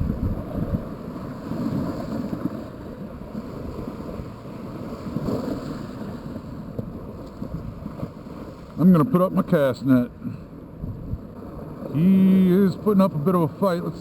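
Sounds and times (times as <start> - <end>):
wind buffeting the microphone: 0.0 - 8.8, 10.2 - 12.6
waves washing at shore: 0.0 - 14.0.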